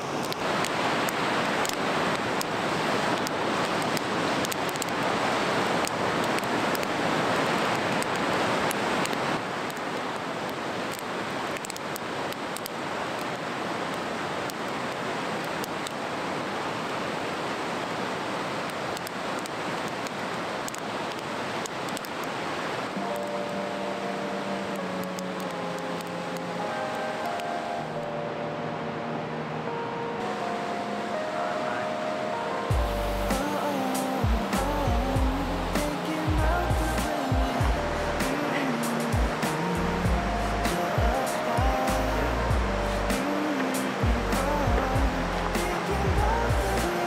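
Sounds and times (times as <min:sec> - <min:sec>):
river rushing: 0:00.0 - 0:47.0.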